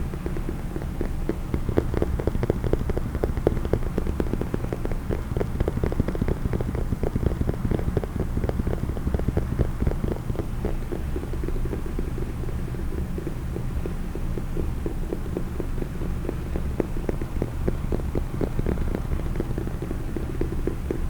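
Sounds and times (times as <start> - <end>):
fast tapping on a case: 0.0 - 21.0.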